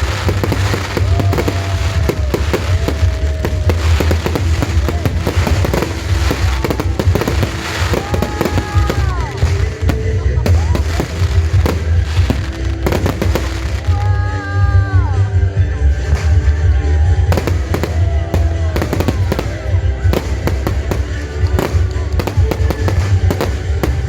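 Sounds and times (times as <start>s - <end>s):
fireworks bursting and crackling: 0.0s - 15.0s, 15.8s - 24.0s
loud music: 0.0s - 24.0s.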